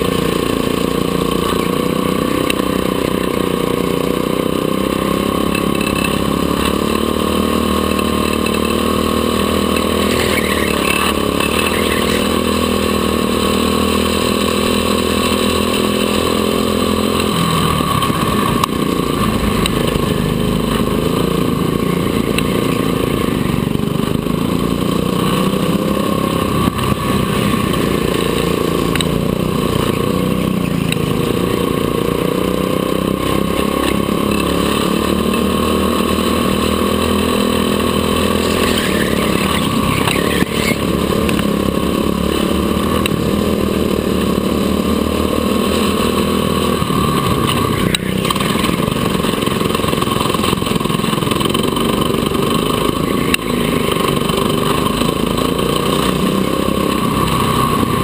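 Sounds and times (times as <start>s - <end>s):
go-kart engines revving: 0.0s - 58.0s.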